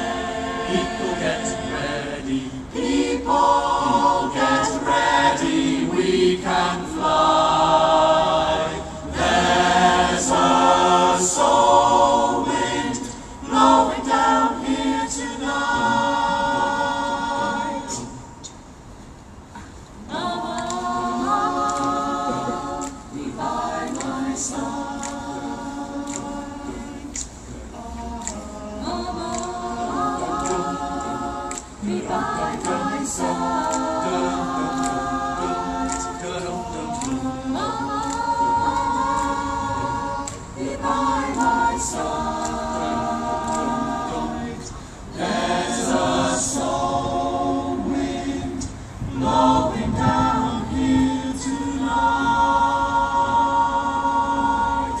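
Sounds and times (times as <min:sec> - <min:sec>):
choir singing unaccompanied: 0:00.0 - 0:18.5, 0:19.7 - 0:55.0.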